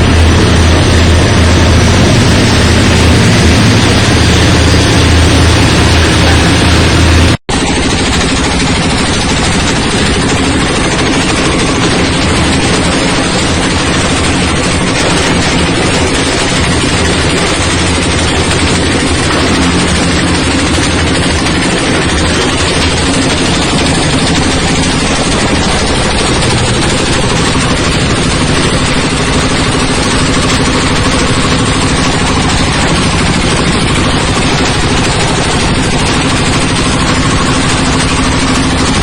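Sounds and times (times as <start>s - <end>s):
motor hum: 0.0s - 39.0s
rapid rattling clatter: 0.0s - 39.0s.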